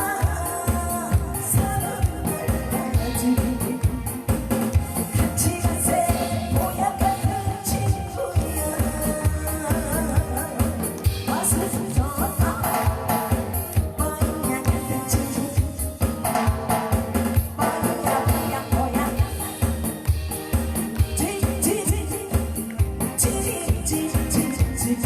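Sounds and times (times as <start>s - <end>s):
trot backing music: 0.0s - 25.0s.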